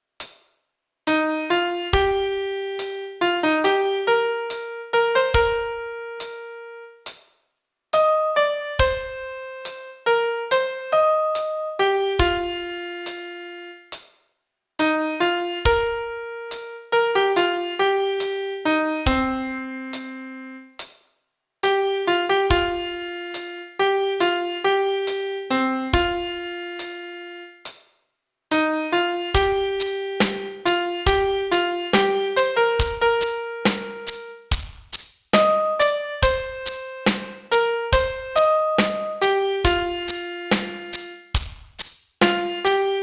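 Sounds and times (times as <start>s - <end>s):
piano melody: 1.1s - 7.0s, 8.0s - 13.8s, 14.8s - 20.7s, 21.6s - 27.5s, 28.5s - 34.6s, 35.4s - 41.4s, 42.2s - 43.0s.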